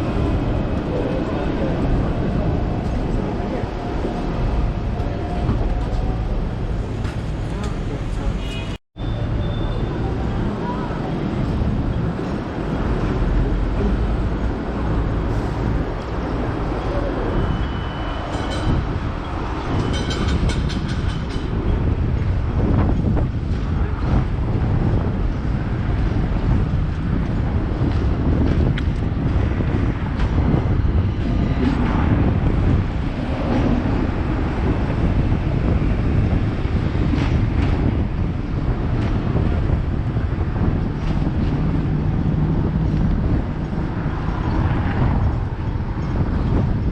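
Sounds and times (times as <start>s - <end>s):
steel wheels rumbling on rail: 0.0s - 8.6s, 9.3s - 46.9s
wind buffeting microphone: 0.0s - 8.7s, 9.3s - 46.9s.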